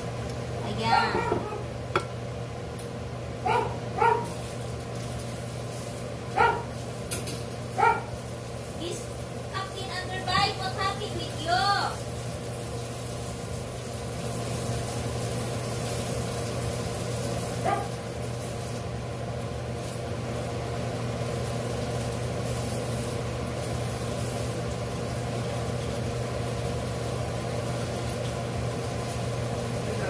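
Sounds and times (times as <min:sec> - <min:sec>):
ribs sizzling in hot oil: 0:00.0 - 0:30.0.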